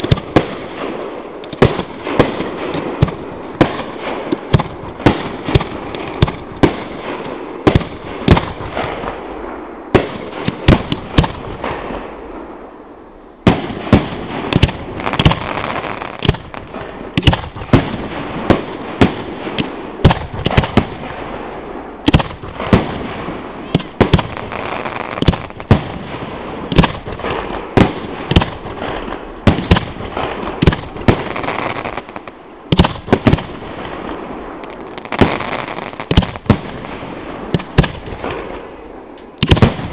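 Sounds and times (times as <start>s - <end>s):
fireworks crackling: 0.0s - 12.7s, 13.3s - 39.9s
fireworks bangs: 0.0s - 39.9s.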